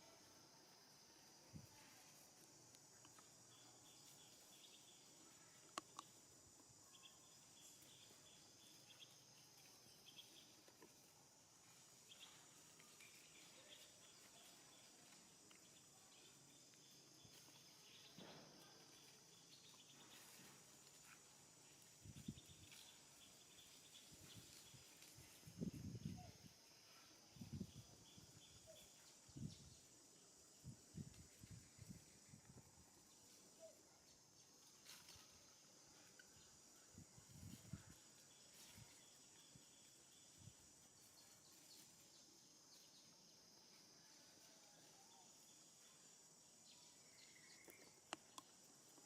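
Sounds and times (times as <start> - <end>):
insect chorus buzzing: 0.0 - 49.0.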